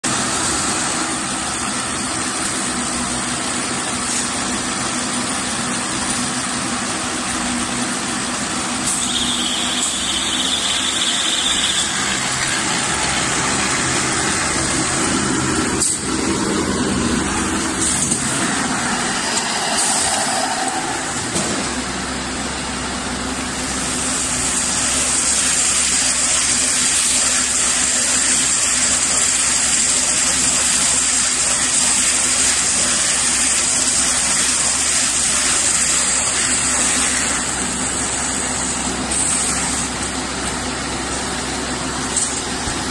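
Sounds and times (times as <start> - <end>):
hay baler mechanical noise: 0.1 - 42.9.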